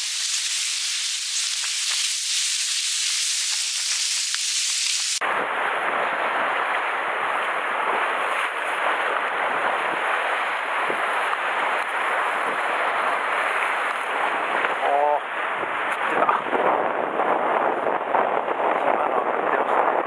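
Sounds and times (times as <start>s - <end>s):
surf washing over rocks: 0.0s - 20.0s
wind: 0.0s - 20.0s.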